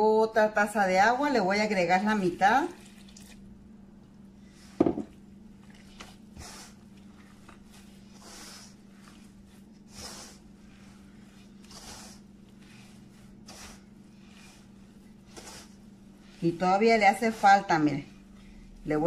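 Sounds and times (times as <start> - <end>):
steady low hum: 0.0 - 19.0
wet dough squelching: 1.9 - 19.0.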